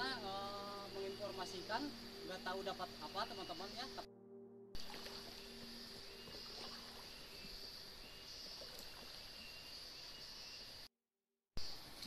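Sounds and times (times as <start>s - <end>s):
insects buzzing: 0.0s - 10.9s.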